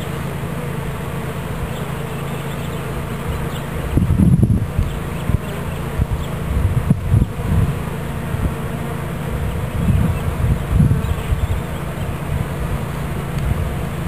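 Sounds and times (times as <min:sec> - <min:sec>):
bees buzzing: 0:00.0 - 0:14.0
low rumbles: 0:00.0 - 0:14.0.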